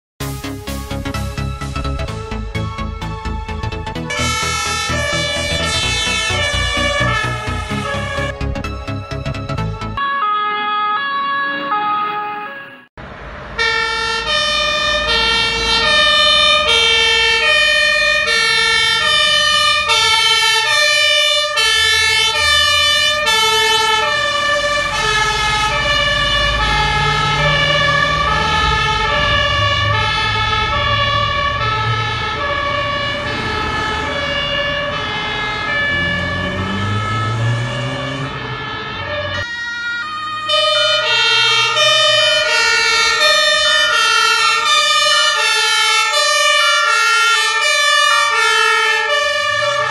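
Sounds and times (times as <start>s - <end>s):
diesel truck engines rumbling: 0.2s - 10.0s, 11.4s - 49.9s
fire engine two-tone horns: 4.0s - 8.5s, 10.0s - 12.9s, 13.5s - 49.9s.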